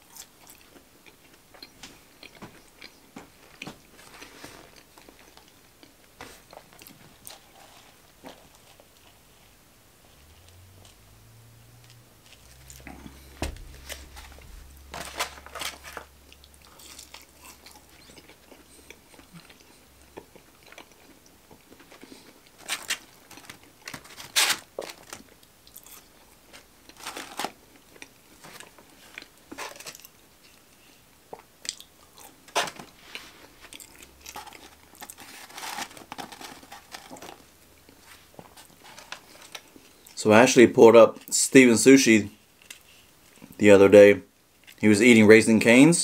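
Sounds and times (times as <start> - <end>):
crunchy eating and chewing: 0.0 - 9.5, 11.9 - 40.2.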